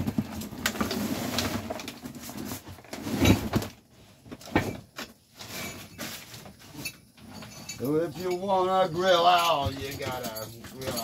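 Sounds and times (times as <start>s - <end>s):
objects clunking while rummaging: 0.0s - 11.0s.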